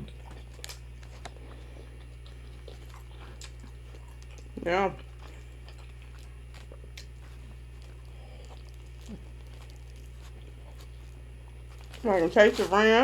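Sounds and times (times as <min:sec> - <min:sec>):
person chewing food: 0:00.0 - 0:12.9
steady low hum: 0:00.0 - 0:13.0.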